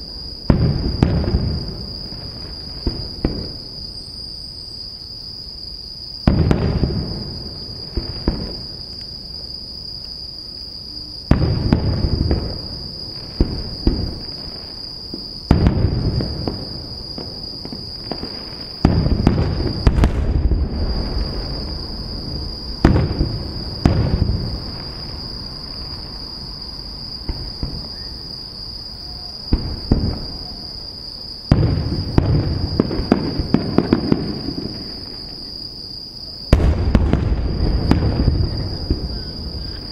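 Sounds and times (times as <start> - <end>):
firework booms: 0.0 - 3.9, 6.2 - 9.6, 11.2 - 35.8, 36.4 - 39.9
night insects chirring: 0.0 - 39.9.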